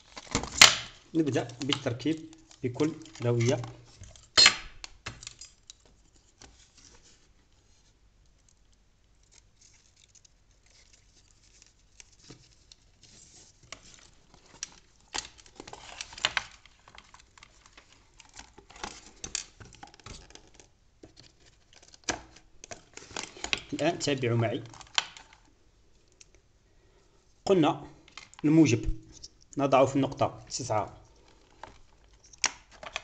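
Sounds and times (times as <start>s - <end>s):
plastic parts clicking and scraping: 0.0s - 7.3s, 8.3s - 26.4s, 28.0s - 33.0s.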